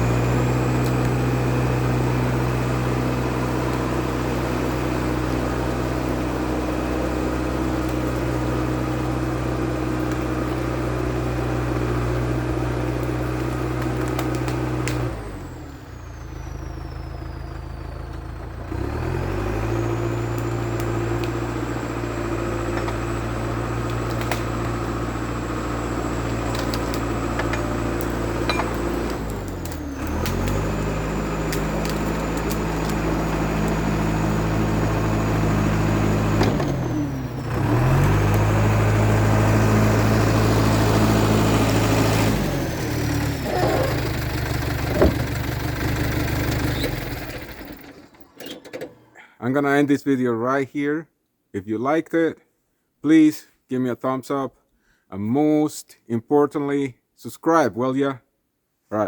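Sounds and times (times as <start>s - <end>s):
bulldozer diesel engine revving: 0.0s - 48.4s
high engine whine: 0.0s - 48.6s.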